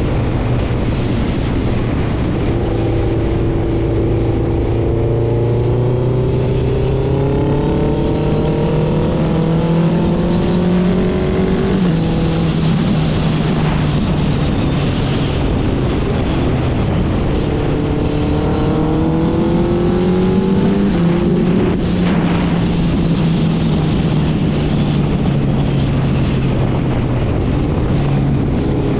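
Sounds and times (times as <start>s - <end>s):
motorcycle engine under throttle: 0.0s - 28.9s.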